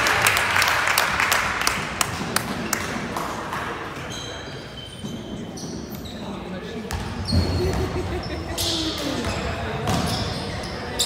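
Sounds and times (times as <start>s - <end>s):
crowd voices: 1.4s - 11.0s
sneakers squeaking: 2.1s - 11.0s.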